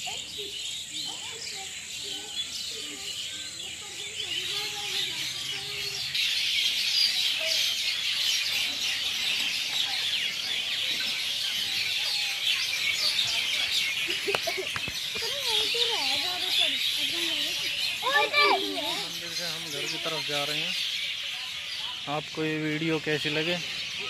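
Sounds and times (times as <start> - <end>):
chorus of birds chirping: 0.0 - 24.0.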